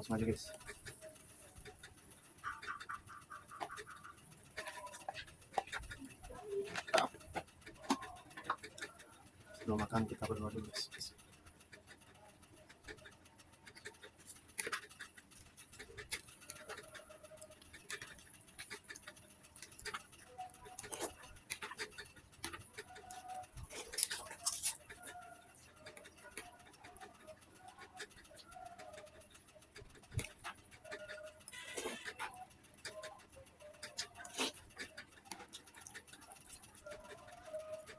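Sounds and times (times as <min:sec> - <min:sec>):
chewing: 0:00.0 - 0:37.9
dove cooing faintly: 0:00.0 - 0:37.9.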